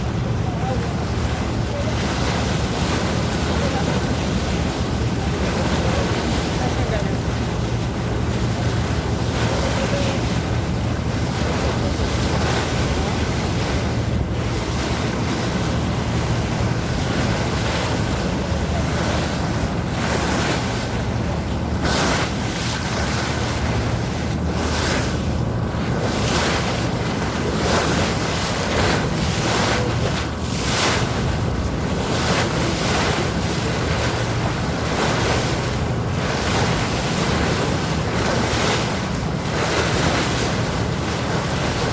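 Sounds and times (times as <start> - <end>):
boat engine humming: 0.0 - 41.9
waves splashing around boat: 0.0 - 41.9
wind buffeting microphone: 0.0 - 41.9.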